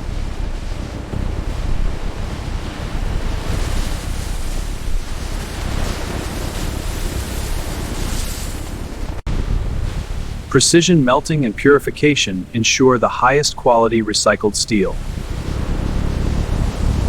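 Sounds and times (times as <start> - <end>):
rushing rumbling noise: 0.0 - 17.0.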